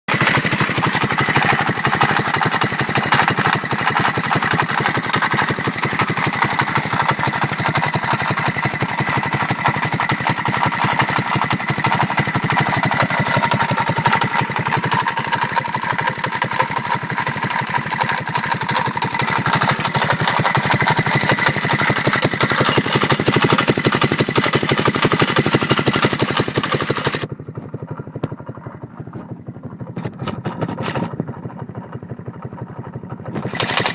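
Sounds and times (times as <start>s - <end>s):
engine running with rattle: 0.1s - 33.9s.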